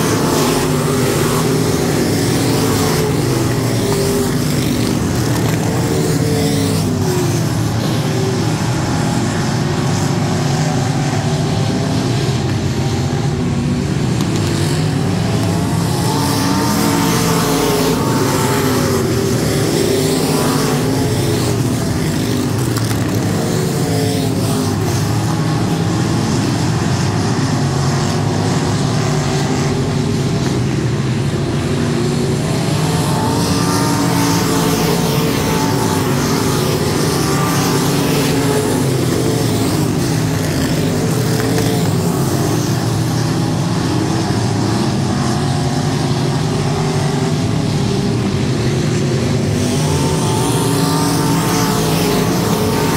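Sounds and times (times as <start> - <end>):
race car engines running: 0.0 - 52.9.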